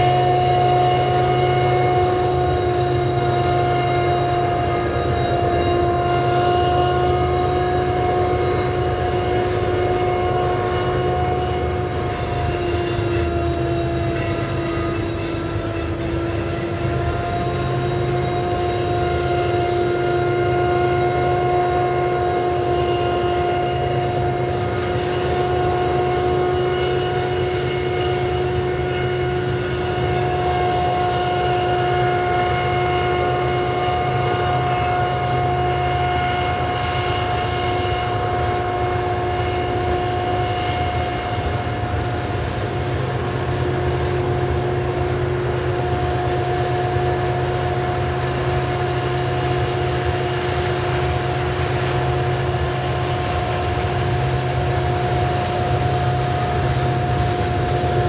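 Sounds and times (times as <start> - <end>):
diesel locomotive whine: 0.0 - 58.0
train wheels rumbling on rails: 0.0 - 58.0.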